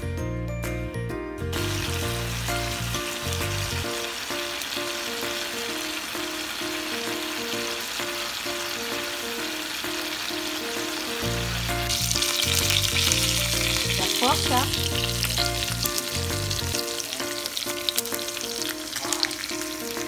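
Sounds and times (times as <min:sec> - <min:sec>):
background music: 0:00.0 - 0:20.0
meat sizzling in a pan: 0:01.5 - 0:20.0.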